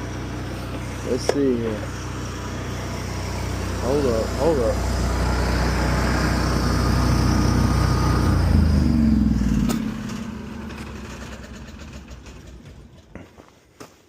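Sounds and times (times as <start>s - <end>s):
engine running and shutting off: 0.0s - 14.0s.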